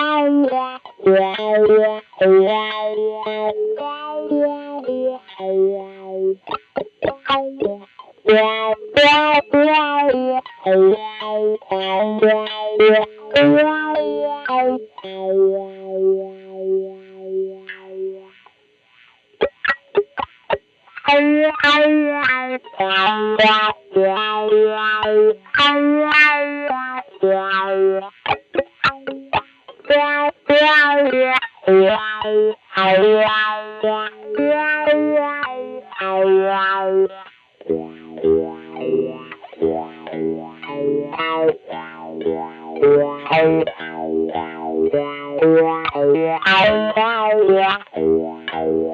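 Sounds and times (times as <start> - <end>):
electric guitar playing: 0.0 - 48.9.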